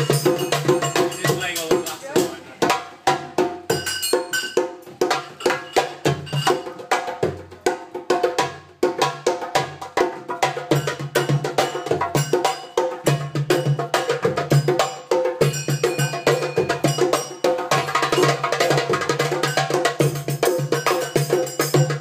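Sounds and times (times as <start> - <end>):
hand drums playing: 0.0 - 22.0.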